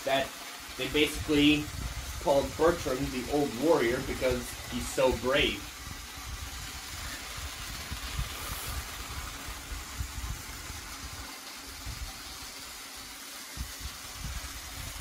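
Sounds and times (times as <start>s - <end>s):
toy train motor and gears: 0.0s - 15.0s.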